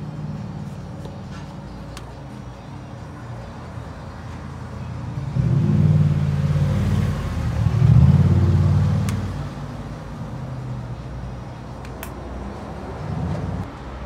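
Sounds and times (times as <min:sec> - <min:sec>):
street background noise: 0:00.0 - 0:14.0
vehicle engine rumble: 0:00.0 - 0:14.0.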